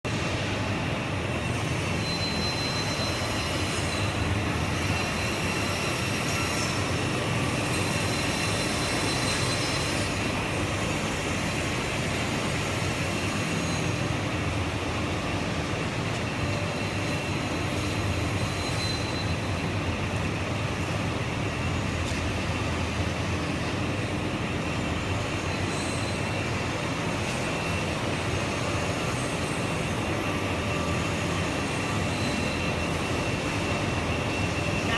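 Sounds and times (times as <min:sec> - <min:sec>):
thin high whine: 0:00.6 - 0:34.9.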